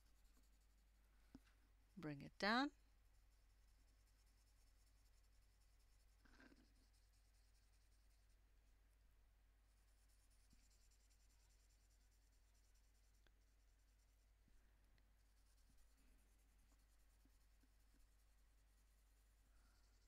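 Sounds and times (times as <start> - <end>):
pencil shading on paper: 0.0 - 1.6, 2.4 - 20.0.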